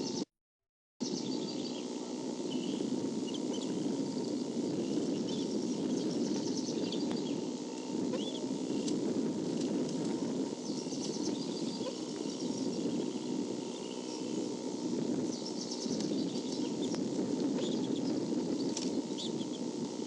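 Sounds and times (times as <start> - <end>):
rapid high bird chirping: 1.0 - 8.9, 10.1 - 19.8.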